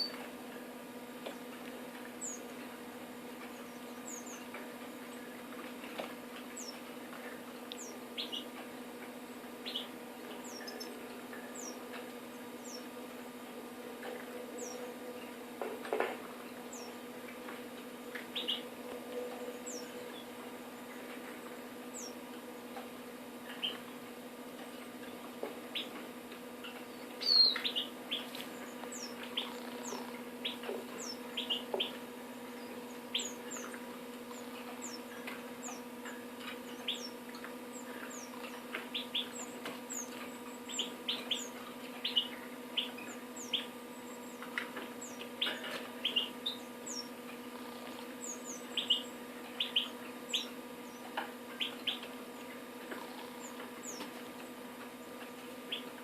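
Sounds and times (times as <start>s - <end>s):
low electrical hum: 0.0s - 56.0s
songbirds chirping: 0.0s - 56.0s.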